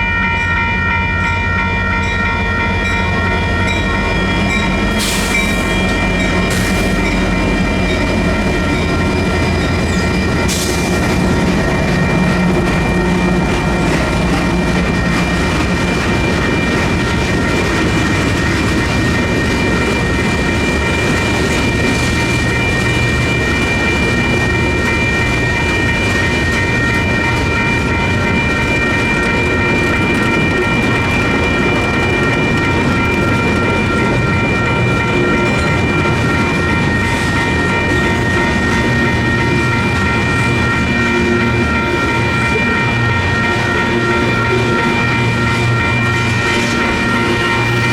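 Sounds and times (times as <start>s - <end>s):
crossing bells ringing: 0.0s - 47.9s
freight train clacking over rails: 0.0s - 47.9s.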